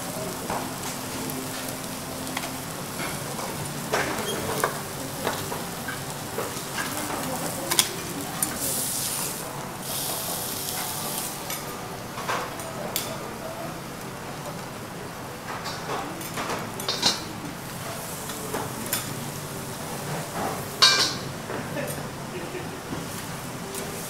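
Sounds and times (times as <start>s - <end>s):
foie gras sizzling on a griddle: 0.0s - 24.0s.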